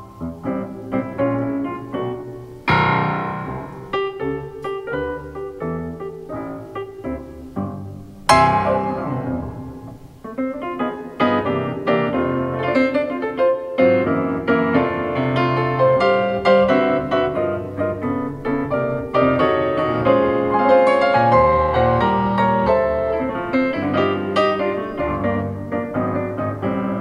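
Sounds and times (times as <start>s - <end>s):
solo piano playing: 0.0s - 27.0s.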